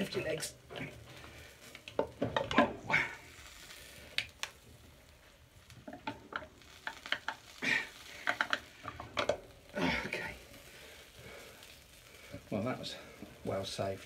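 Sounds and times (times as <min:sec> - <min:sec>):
meat sizzling: 0:00.0 - 0:14.0
metal clinking and scraping on grill: 0:00.0 - 0:14.0.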